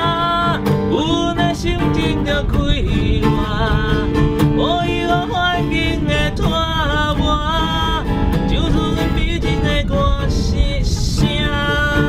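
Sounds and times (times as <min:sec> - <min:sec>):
acoustic guitar: 0:00.0 - 0:12.0
man singing: 0:00.0 - 0:12.0.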